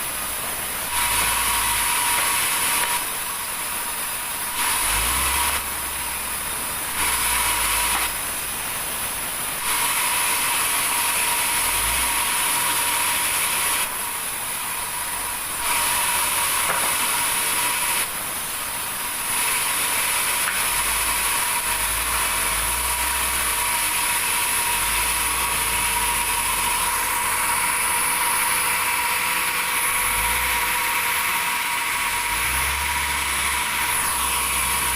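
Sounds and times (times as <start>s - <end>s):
saw whining through wood: 0.0s - 34.9s.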